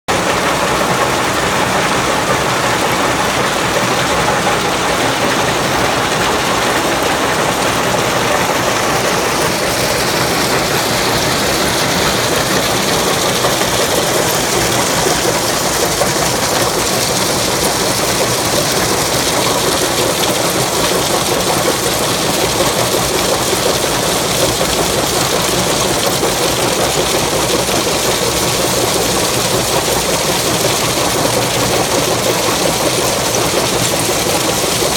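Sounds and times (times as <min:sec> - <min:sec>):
cone crusher running: 0:00.1 - 0:34.9.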